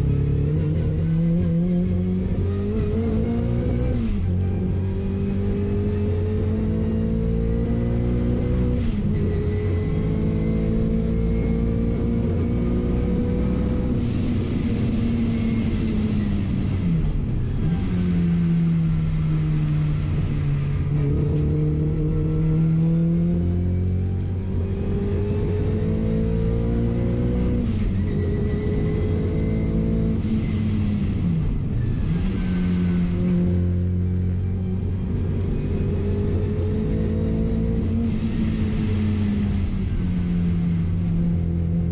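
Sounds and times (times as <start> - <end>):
car engine accelerating hard: 0.0 - 41.9.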